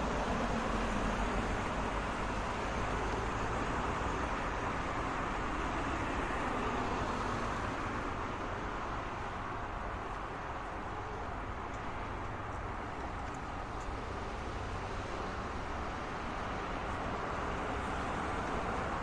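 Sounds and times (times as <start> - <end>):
passing cars and tyre noise: 0.0 - 19.0.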